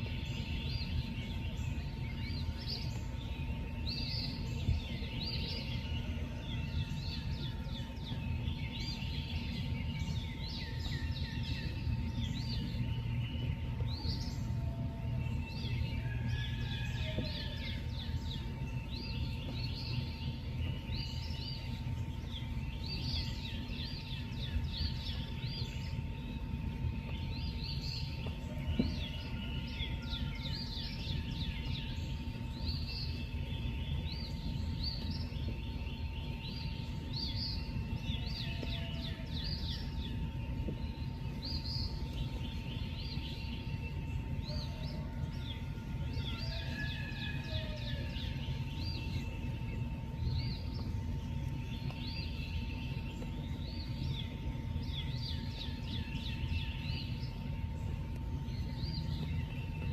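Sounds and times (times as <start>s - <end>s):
faint hum: 0.0s - 59.9s
many birds chirping: 0.0s - 59.9s.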